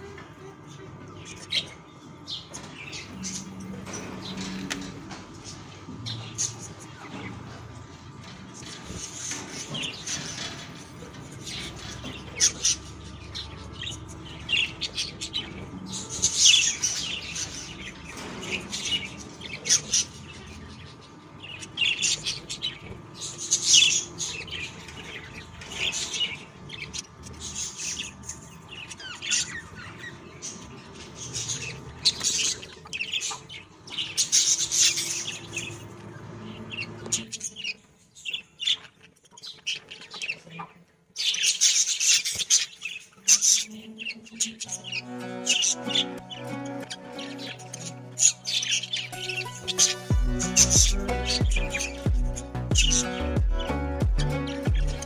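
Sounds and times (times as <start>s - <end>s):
budgerigar chicks chirping: 0.0s - 55.0s.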